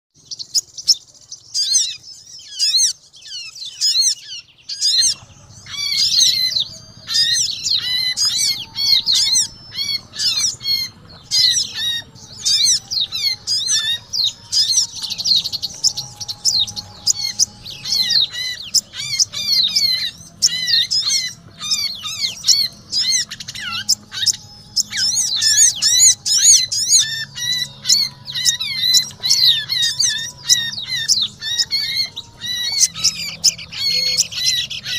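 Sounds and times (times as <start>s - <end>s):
birds chirping and squawking: 0.2s - 34.9s
low steady hum: 4.3s - 34.9s.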